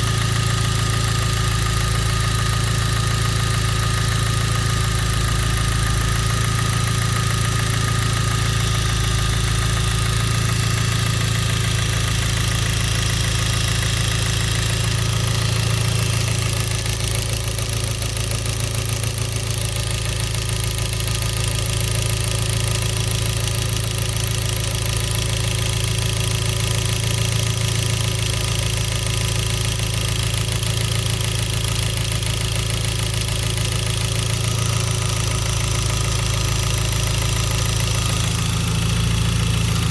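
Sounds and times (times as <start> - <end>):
engine running with rod knock: 0.0 - 39.9.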